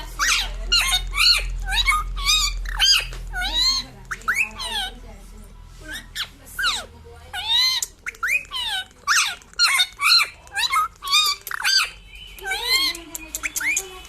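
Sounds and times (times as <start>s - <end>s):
parrot squawking and chirping: 0.0s - 14.0s.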